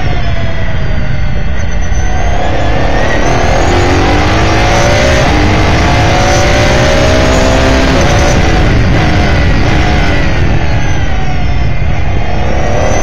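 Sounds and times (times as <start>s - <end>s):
wind and road noise: 0.0s - 13.0s
race car engine revving: 2.0s - 13.0s.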